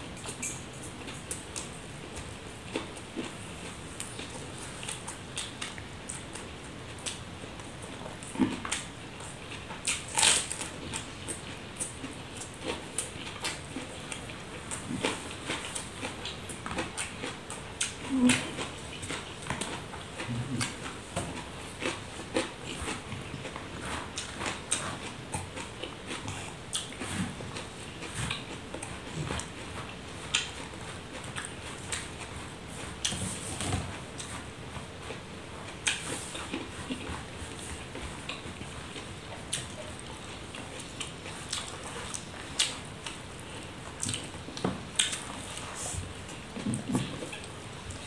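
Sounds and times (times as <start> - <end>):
man chewing: 0.2 - 48.0.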